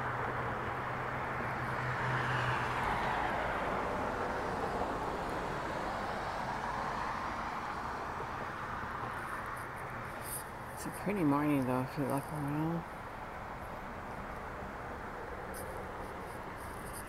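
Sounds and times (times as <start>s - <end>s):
vehicles rushing by on road: 0.0s - 17.0s.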